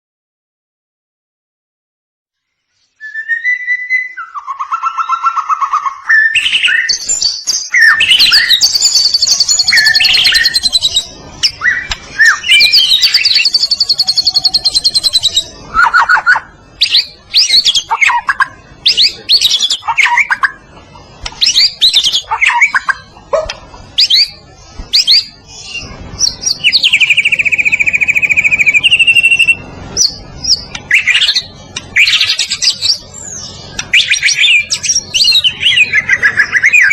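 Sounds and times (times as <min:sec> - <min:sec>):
bird singing varied song: 0:02.4 - 0:36.9.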